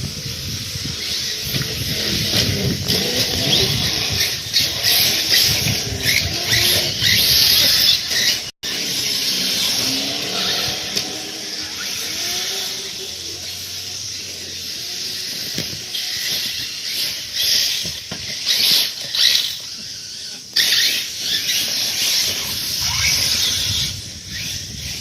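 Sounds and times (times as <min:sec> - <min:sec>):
remote control truck motor whine: 0:00.1 - 0:25.0.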